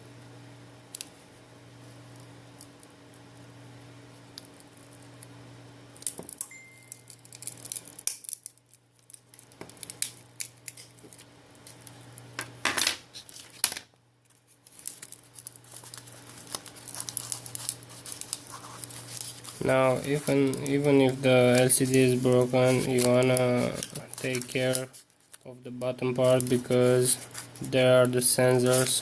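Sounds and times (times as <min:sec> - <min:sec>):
steady low hum: 0:00.0 - 0:13.2, 0:14.0 - 0:29.0.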